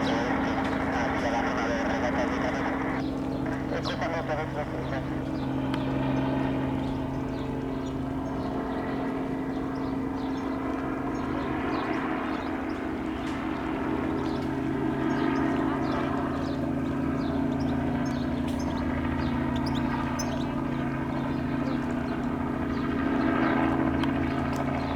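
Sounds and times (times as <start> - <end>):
helicopter drone: 0.0 - 24.9.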